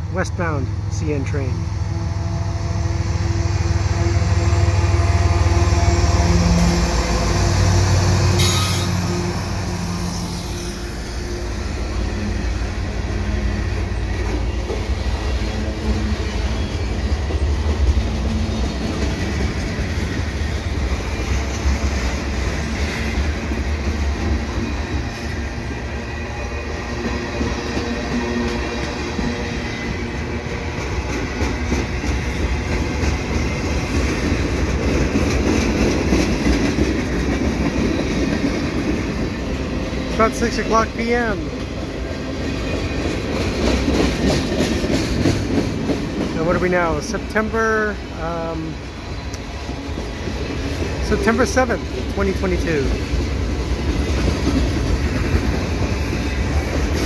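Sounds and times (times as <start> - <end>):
diesel locomotive humming: 0.0 - 57.0
steel wheels rumbling on rail: 0.0 - 57.0.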